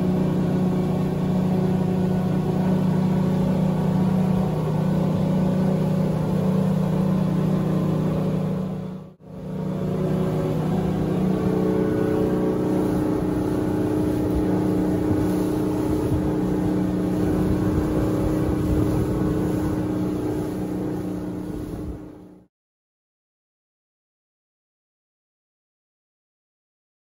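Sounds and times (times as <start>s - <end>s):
motorboat engine running: 0.0s - 22.5s
water splashing against hull: 0.0s - 22.5s.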